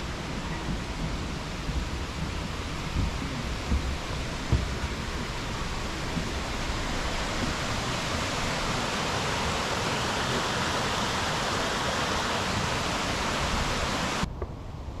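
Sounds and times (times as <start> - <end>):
water rushing over rocks: 0.0 - 14.3.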